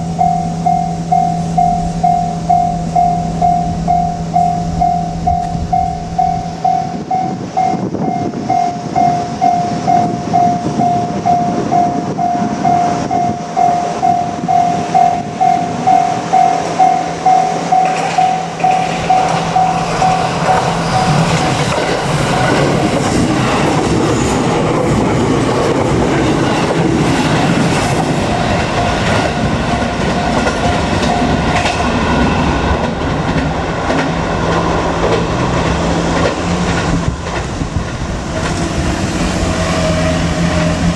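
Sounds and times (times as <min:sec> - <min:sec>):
level-crossing warning bell: 0:00.0 - 0:40.9
train passing with rushing noise: 0:00.0 - 0:40.9.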